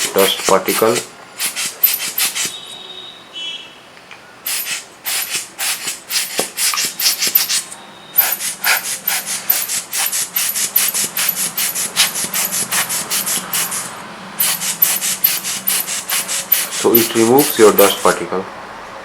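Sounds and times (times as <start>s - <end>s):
air blower puffing: 0.0s - 2.8s, 4.4s - 18.3s.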